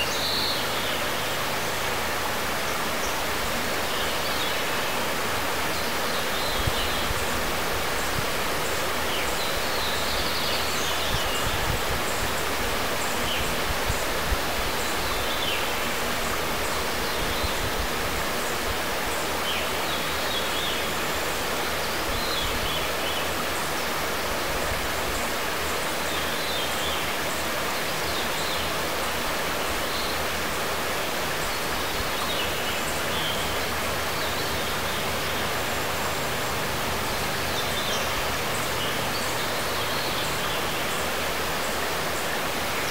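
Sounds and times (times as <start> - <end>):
stream water flowing over stones: 0.0 - 42.9.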